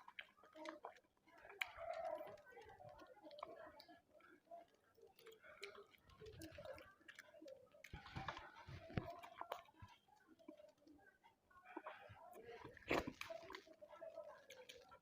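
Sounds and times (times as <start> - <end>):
person chewing: 0.0 - 10.8, 11.6 - 15.0.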